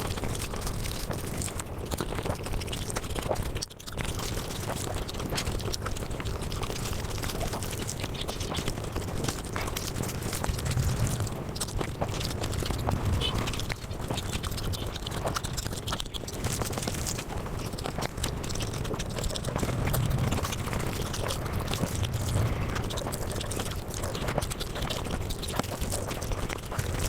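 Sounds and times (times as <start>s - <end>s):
sped-up chewing clicks: 4.0s - 27.0s.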